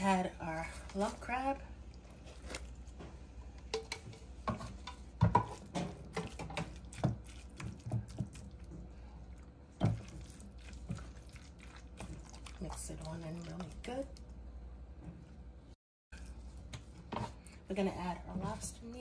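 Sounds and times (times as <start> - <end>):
wet squelches of mixing: 0.0 - 15.4.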